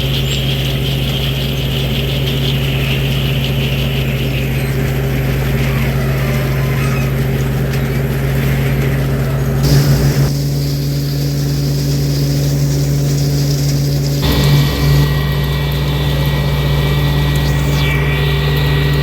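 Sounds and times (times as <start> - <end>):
fast mechanical rattle: 0.0 - 5.7, 7.1 - 19.0
harvesting machine engine drone: 0.0 - 19.0.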